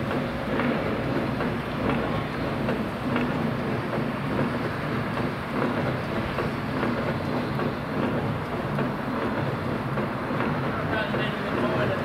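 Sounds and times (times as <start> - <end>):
crane engine droning: 0.0 - 12.0.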